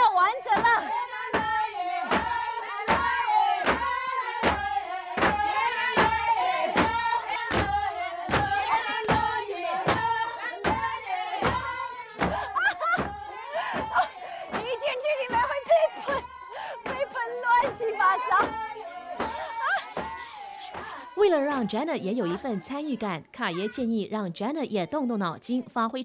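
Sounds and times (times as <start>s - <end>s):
women singing together: 0.0s - 23.3s.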